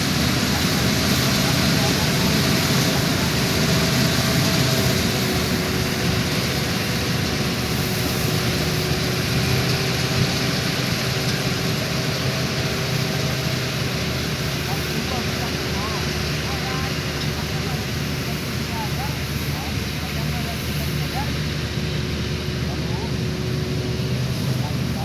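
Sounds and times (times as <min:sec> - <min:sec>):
combine harvester droning: 0:00.0 - 0:25.0.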